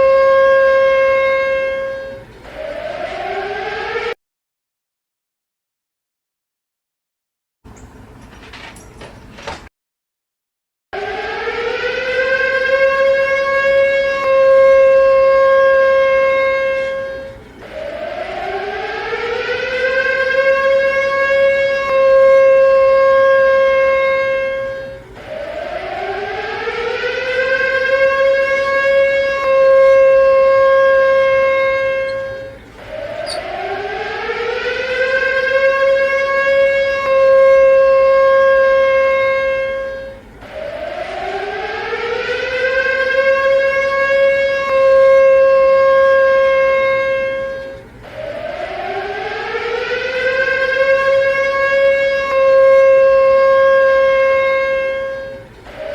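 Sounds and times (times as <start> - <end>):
siren wailing: 0.0 - 4.2, 11.0 - 55.9.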